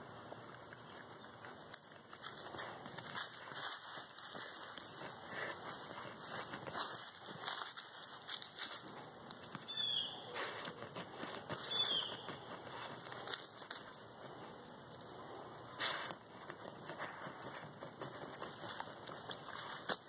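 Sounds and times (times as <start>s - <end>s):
dog digging in loose dirt: 0.5s - 20.0s.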